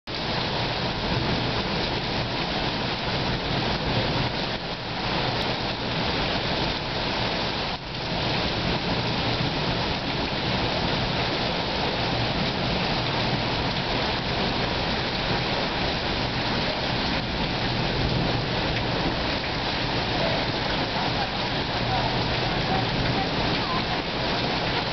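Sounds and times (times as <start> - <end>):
heavy rain falling: 0.1 - 24.9.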